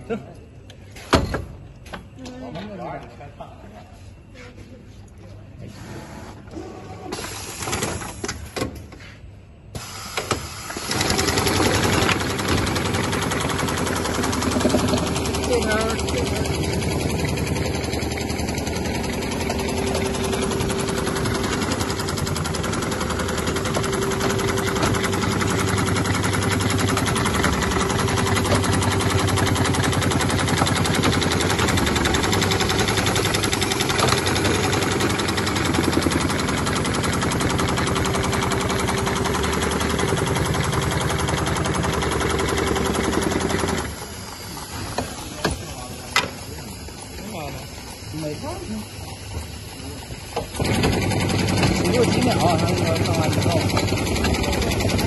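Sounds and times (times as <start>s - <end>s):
industrial sewing machine stitching: 5.8s - 8.3s, 9.8s - 48.9s, 49.8s - 55.0s
motor hum: 10.4s - 55.0s.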